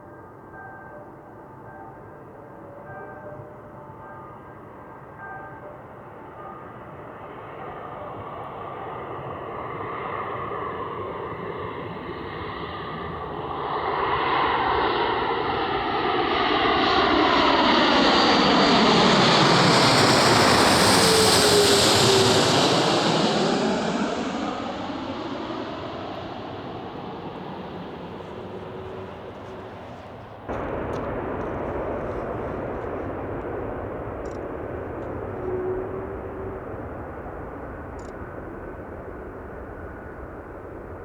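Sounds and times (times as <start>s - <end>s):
jet airliner passing by: 2.0s - 41.0s
falling jet engine whine: 6.7s - 41.0s.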